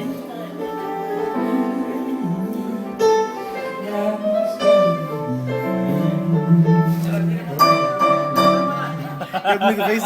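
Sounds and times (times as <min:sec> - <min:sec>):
piano: 0:00.0 - 0:10.0
slow string-like instrumental music: 0:00.0 - 0:10.0.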